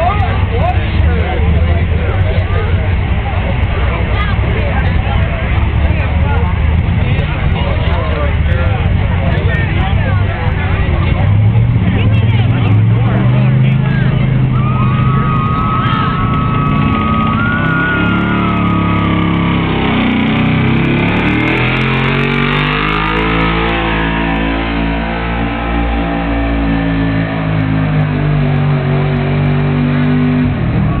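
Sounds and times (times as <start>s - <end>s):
truck engine at high revs: 0.0s - 31.0s.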